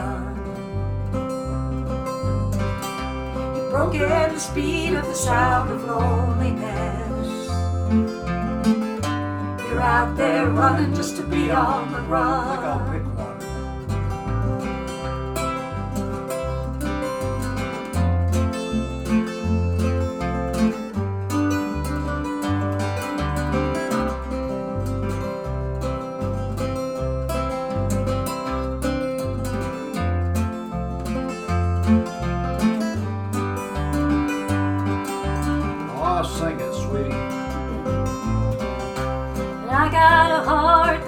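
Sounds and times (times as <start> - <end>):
acoustic guitar lead: 0.0 - 41.0
alternating bass line: 0.0 - 41.0.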